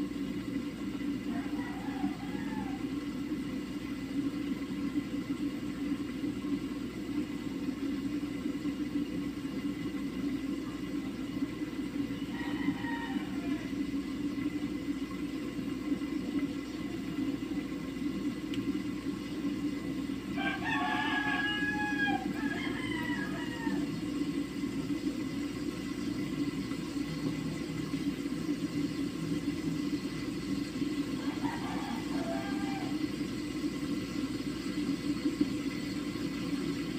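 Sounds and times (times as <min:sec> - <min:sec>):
steady low whir: 0:00.0 - 0:36.9
stove burner low rumble: 0:00.0 - 0:36.9.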